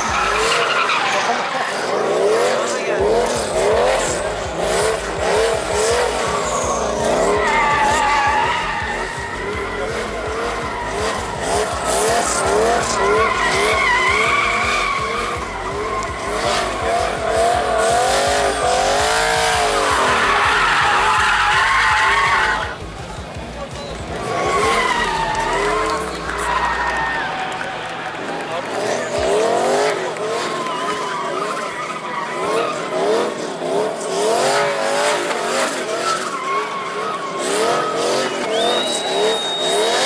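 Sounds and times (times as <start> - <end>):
tyres squealing: 0.0 - 22.8, 23.9 - 33.8, 34.6 - 40.0
car engine revving: 0.0 - 40.0.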